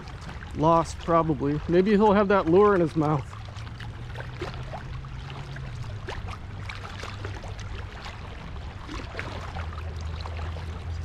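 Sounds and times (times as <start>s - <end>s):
low rumble: 0.0s - 11.0s
river water rushing: 0.0s - 11.0s.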